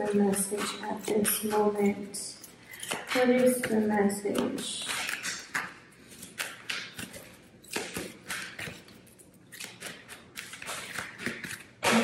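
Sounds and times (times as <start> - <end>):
cards being shuffled: 0.1 - 12.0.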